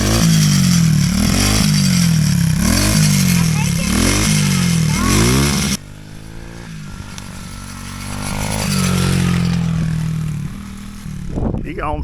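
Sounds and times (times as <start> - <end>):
small petrol engine revving: 0.0 - 11.6.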